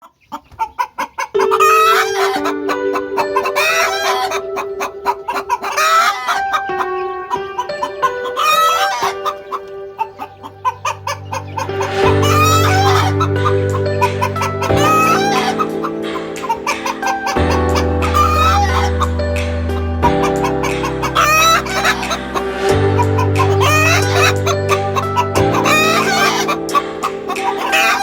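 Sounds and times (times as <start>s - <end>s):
hen cackling: 0.0s - 28.0s
background music with steady beat: 1.4s - 28.0s.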